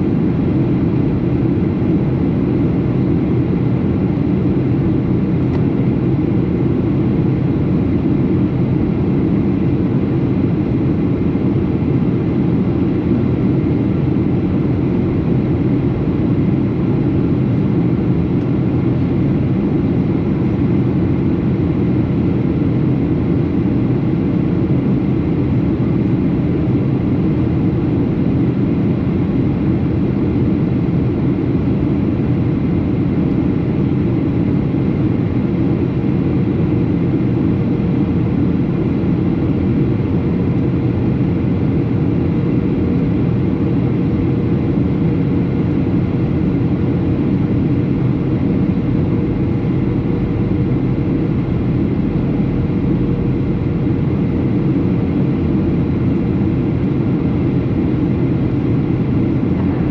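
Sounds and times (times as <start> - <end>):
faint steady hum: 0.0 - 59.9
jet engine cabin drone: 0.0 - 59.9.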